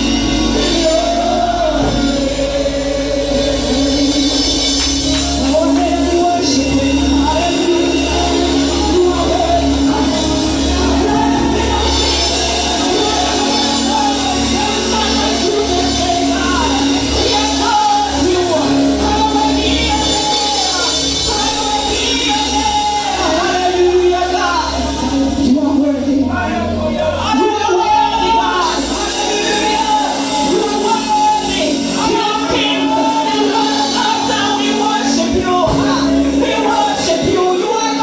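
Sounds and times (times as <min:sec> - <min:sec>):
instrumental accompaniment: 0:00.0 - 0:38.0
voices singing: 0:00.0 - 0:38.0.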